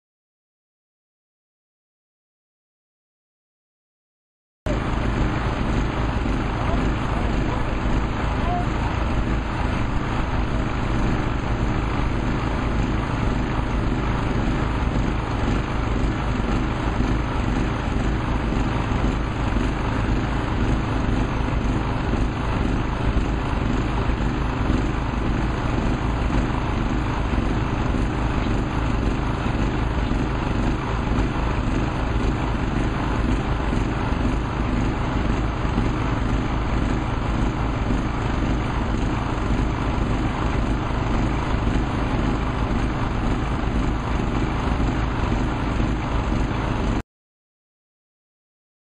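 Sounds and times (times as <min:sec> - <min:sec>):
vibratory pile hammer droning: 0:04.7 - 0:47.0.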